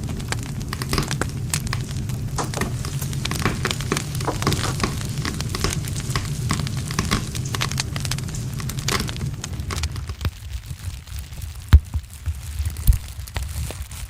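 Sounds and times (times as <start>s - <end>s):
campfire crackling and popping: 0.0s - 14.0s
low sound of flames: 0.0s - 14.0s.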